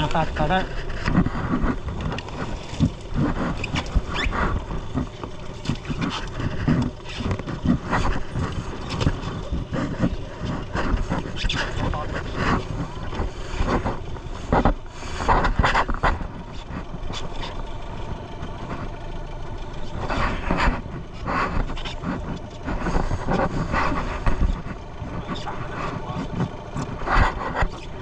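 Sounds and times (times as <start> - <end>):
indistinct voices: 0.0 - 28.0
motorboat engine running: 0.0 - 28.0.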